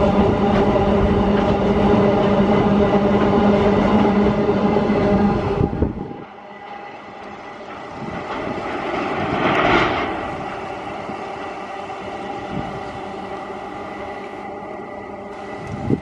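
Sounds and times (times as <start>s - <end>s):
train rail running noise: 0.0s - 16.0s.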